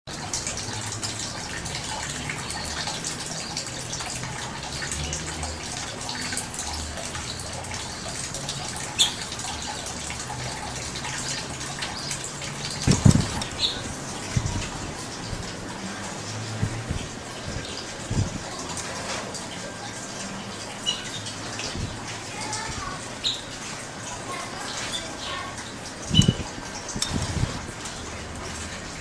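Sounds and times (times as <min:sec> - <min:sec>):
birds feeding with light ticks: 0:00.3 - 0:28.6.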